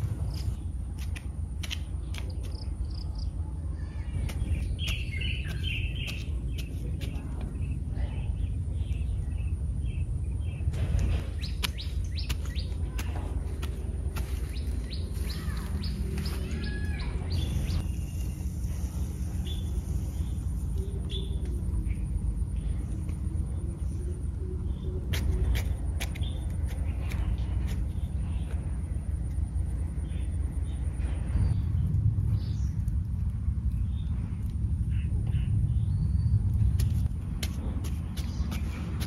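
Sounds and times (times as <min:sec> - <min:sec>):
birds chirping: 0:00.0 - 0:39.0
steady low rumble: 0:00.0 - 0:39.0.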